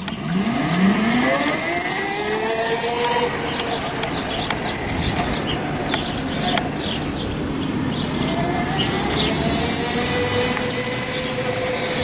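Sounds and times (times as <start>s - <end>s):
electric motor whining: 0.0s - 5.9s, 8.2s - 12.0s
tyre noise on pavement: 0.0s - 12.0s.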